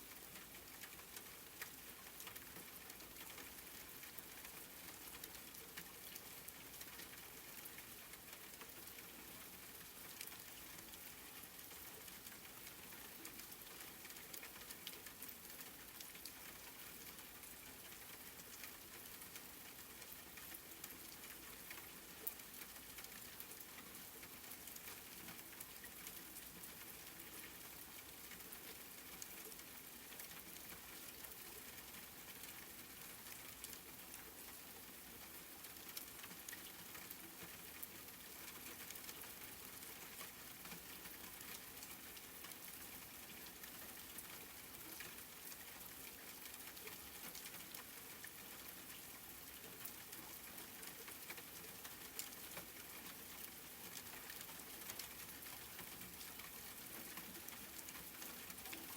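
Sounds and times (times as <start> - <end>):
faint rain drops ticking: 0.0 - 58.9.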